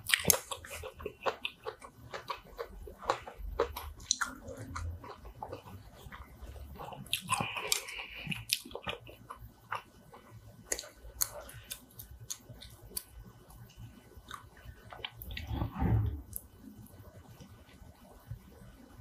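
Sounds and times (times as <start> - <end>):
close chewing mouth sounds: 0.0 - 15.5.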